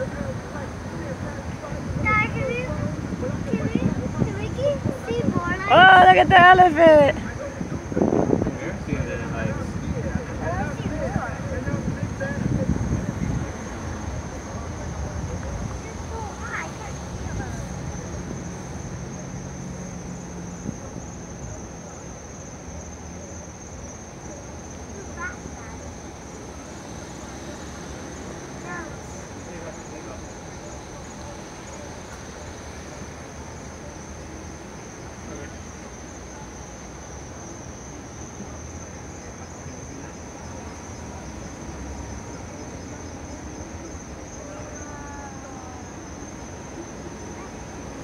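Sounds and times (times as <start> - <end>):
crickets trilling: 0.0 - 48.0
night insects chirring: 0.0 - 48.0.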